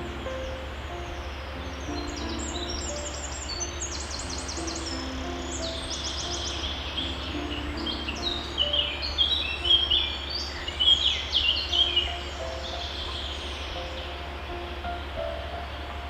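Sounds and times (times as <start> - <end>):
low background hum: 0.0 - 16.0
small birds chirping: 0.0 - 16.0.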